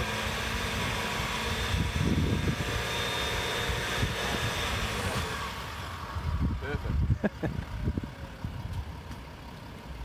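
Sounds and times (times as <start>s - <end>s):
suv engine running under load: 0.0s - 10.0s.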